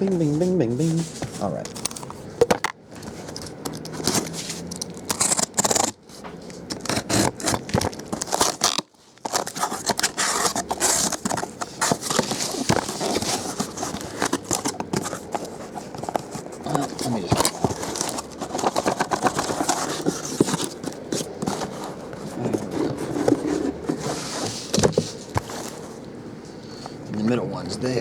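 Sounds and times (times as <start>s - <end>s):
boxes being handled: 0.0s - 26.1s
packaging scraping and crinkling: 0.0s - 26.1s.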